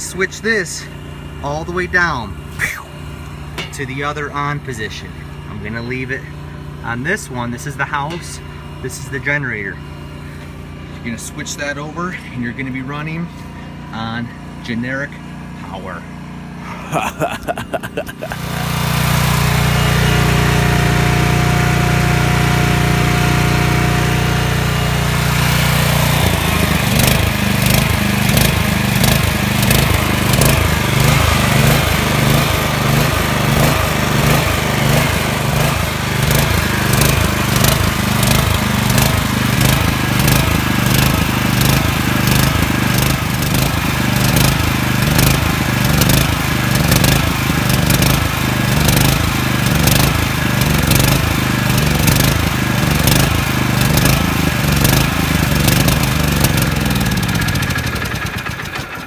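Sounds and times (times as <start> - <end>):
portable generator running: 0.0 - 59.0.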